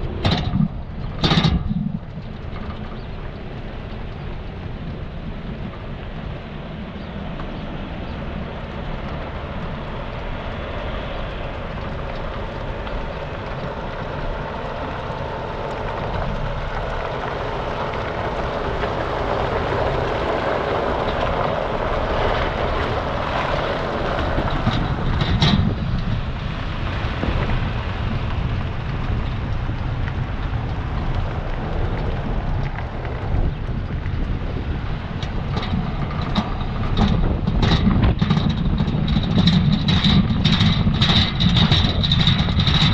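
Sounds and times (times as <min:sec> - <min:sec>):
heavy trailer tyres rolling: 0:00.0 - 0:42.9.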